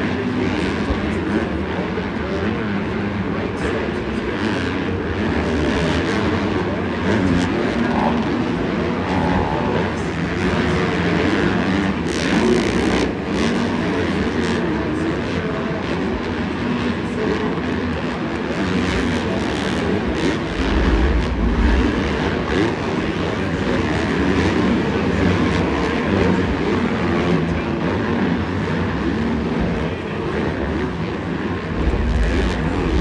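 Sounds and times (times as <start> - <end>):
dirt bike engines revving: 4.4 - 14.8, 16.4 - 33.0.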